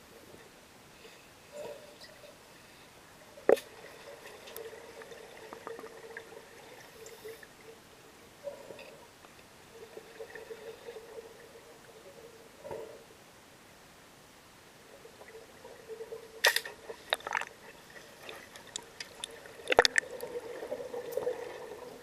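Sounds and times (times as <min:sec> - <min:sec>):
underwater bubbling and gurgling: 0:01.5 - 0:13.2, 0:14.8 - 0:22.0.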